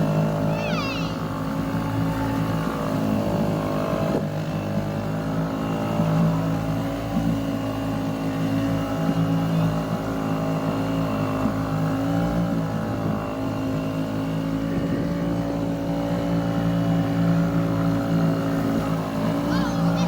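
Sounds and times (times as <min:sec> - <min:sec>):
small boat motors droning: 0:00.0 - 0:20.0.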